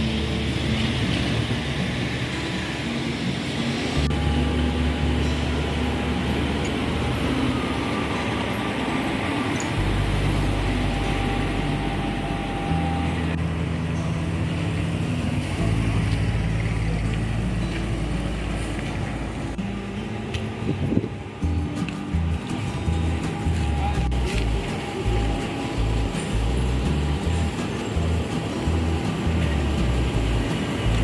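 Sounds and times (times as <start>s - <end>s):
background music: 0.0s - 31.0s
buses and traffic: 0.0s - 31.0s.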